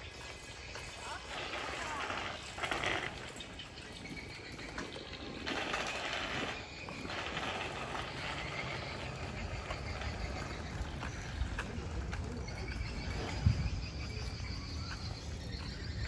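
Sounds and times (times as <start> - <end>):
bicycle tyres on gritty road: 0.0 - 16.0
bicycles rattling and ticking: 0.0 - 16.0.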